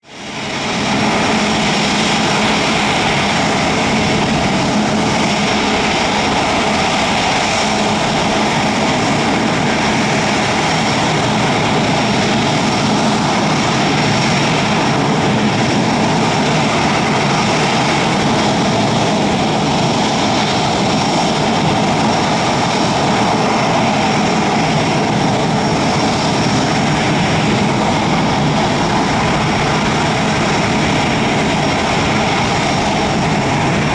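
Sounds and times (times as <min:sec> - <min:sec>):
jet engine whine and rush: 0:00.0 - 0:33.9.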